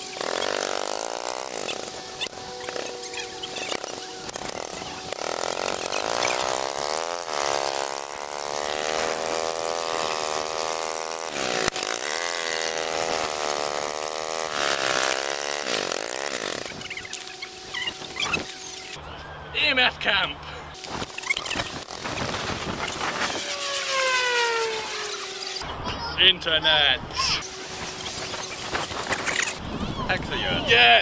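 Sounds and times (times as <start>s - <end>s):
electric motor whine: 0.0s - 19.0s, 20.8s - 25.6s, 27.4s - 29.6s.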